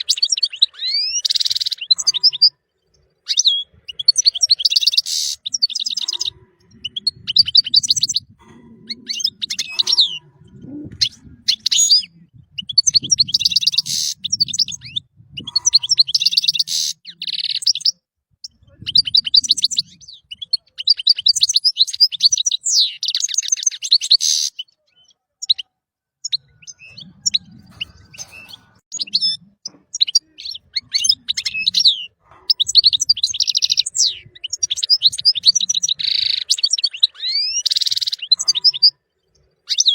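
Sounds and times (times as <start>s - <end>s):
goldfinch singing: 0.0s - 39.0s.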